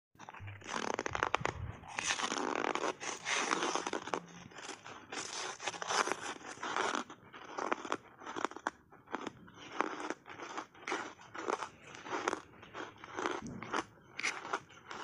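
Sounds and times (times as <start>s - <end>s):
ice crunching while chewed: 0.2s - 15.0s.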